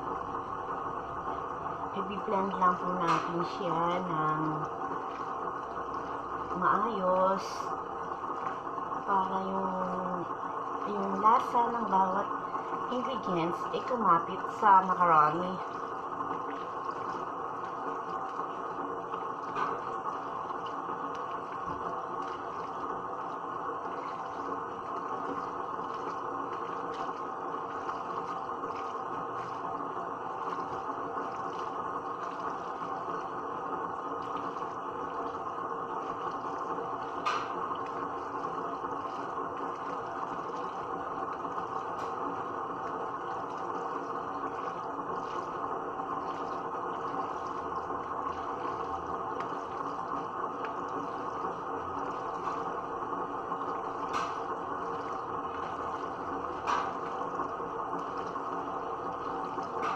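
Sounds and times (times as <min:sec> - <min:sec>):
faint hum: 0:00.0 - 0:59.9.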